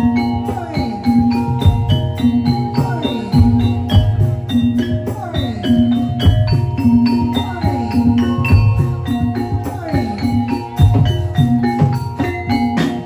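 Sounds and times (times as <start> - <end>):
drums: 0.0 - 13.0
gamelan metal instruments ringing: 0.0 - 13.0.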